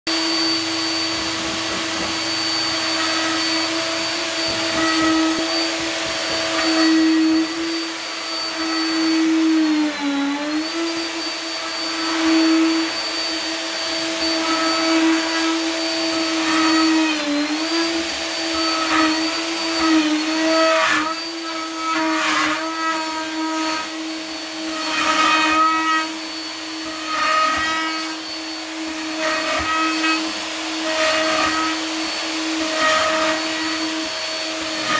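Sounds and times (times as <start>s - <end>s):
router cutting wood: 0.1s - 34.9s
router high whine: 0.1s - 34.9s.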